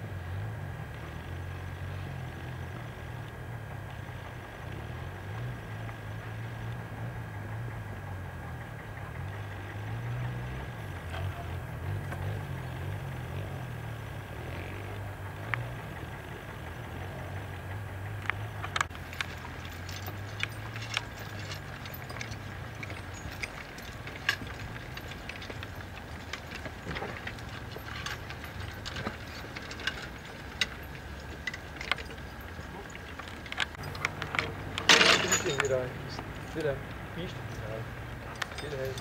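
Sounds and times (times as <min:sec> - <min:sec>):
harness chains clinking: 0:04.0 - 0:39.0.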